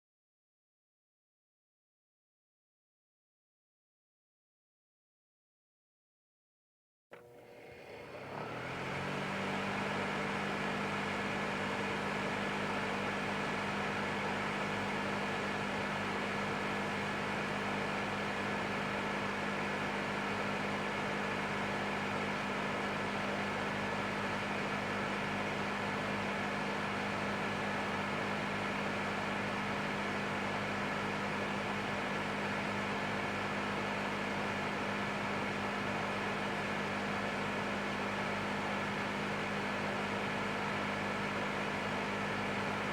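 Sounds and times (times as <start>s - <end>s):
heater fan humming: 7.2s - 42.9s.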